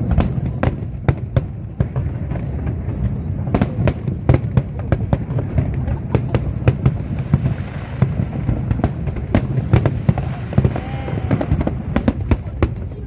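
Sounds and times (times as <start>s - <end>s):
fireworks bangs and crackles: 0.0s - 13.0s
low rumble of distant detonations: 0.0s - 13.0s.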